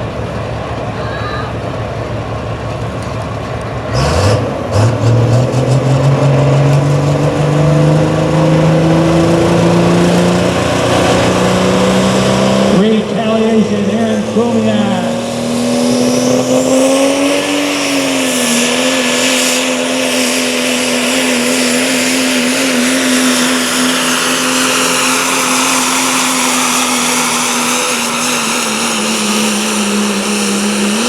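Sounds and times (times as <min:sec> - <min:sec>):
diesel engine running hard: 0:00.0 - 0:31.0.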